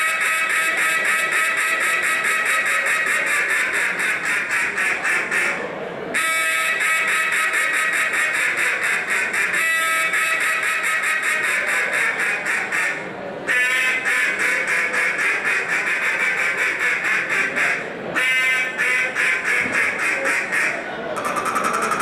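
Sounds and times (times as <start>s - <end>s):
duck call quacking: 0.0s - 22.0s.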